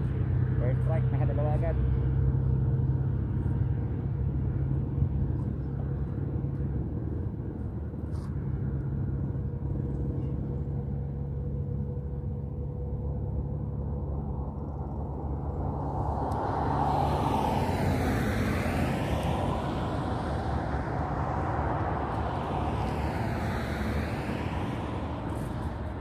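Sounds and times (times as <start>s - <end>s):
low traffic rumble: 0.0s - 26.0s
vehicles passing by: 0.0s - 26.0s.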